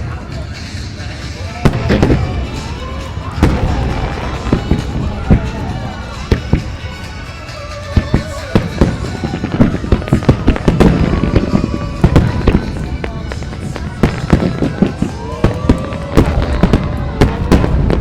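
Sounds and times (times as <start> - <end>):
fireworks bursting: 0.0 - 18.0
music playing: 0.0 - 18.0.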